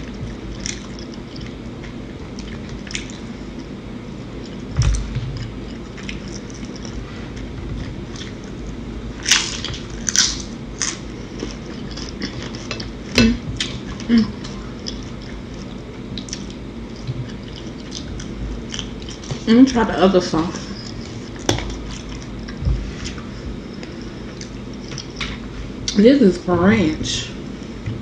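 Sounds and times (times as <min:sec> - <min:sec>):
wet chewing: 0:00.0 - 0:03.7, 0:04.4 - 0:20.0, 0:20.6 - 0:25.4.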